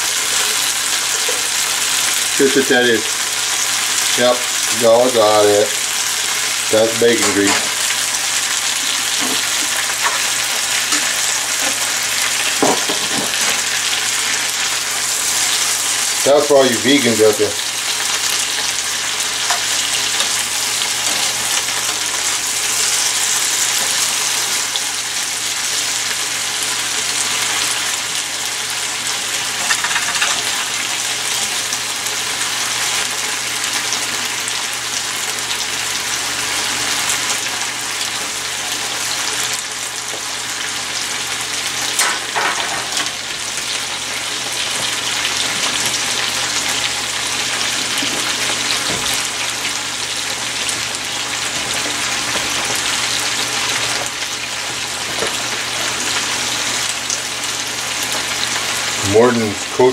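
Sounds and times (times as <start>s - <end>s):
vegetables sizzling in a skillet: 0.0s - 59.9s.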